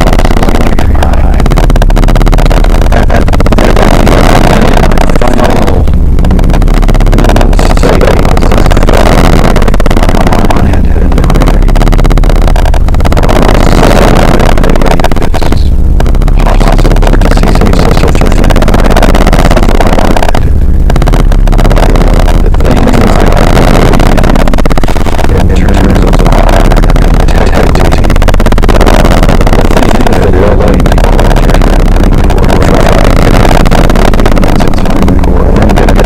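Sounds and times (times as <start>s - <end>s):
distorted harsh noise music: 0.0s - 36.0s
heavy low rumble: 0.0s - 36.0s.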